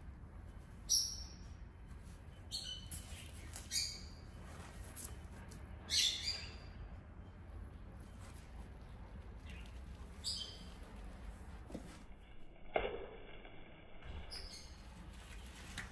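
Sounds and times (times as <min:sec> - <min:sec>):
faint low hum: 0:00.0 - 0:15.9.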